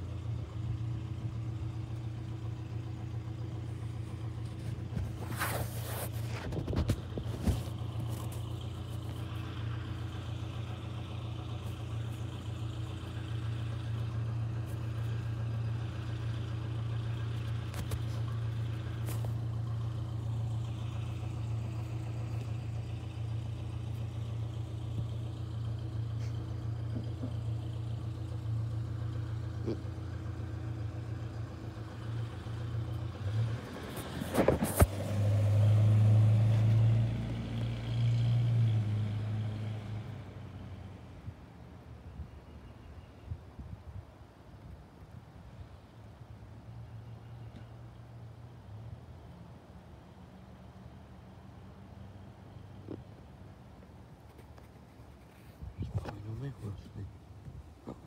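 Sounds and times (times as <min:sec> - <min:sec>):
truck engine idling: 0:00.0 - 0:39.4, 0:44.8 - 0:58.0.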